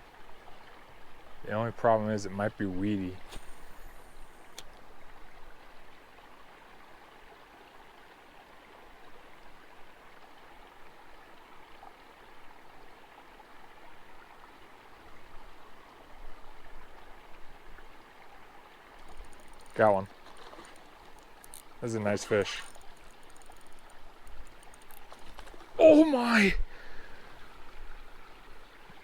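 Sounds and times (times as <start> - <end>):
creek flowing: 0.0 - 29.0.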